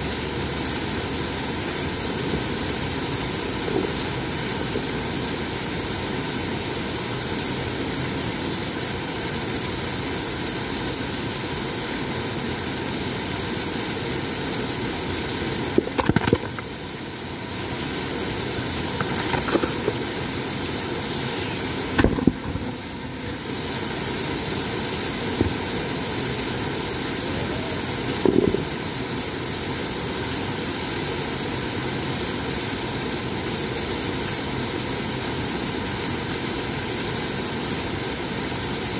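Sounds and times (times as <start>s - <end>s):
waterfall roaring onto rock: 0.0s - 38.9s.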